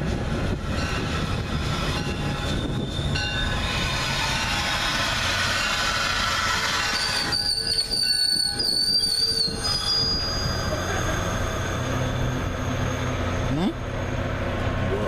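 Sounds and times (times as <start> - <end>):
moving train rumble and hiss: 0.0 - 15.0
train wheels squealing on rails: 0.1 - 15.0.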